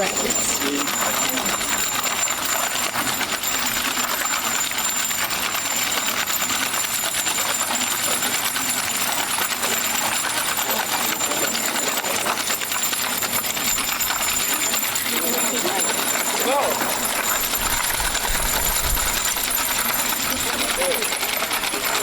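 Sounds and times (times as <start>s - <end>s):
cart wheels rattling on pavement: 0.0s - 22.0s.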